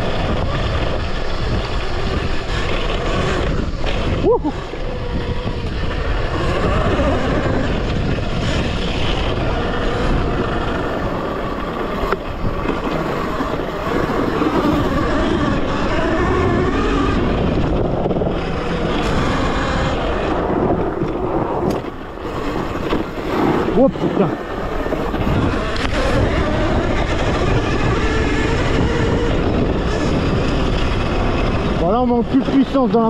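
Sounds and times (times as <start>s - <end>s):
electric motor whine: 0.0s - 33.0s
wind noise on microphone: 0.0s - 33.0s.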